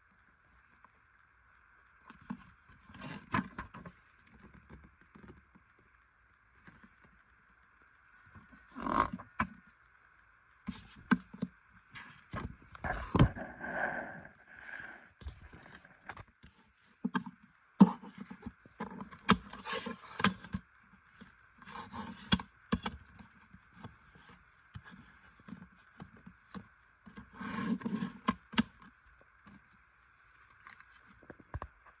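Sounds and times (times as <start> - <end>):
faint high whine: 0.0 - 28.2.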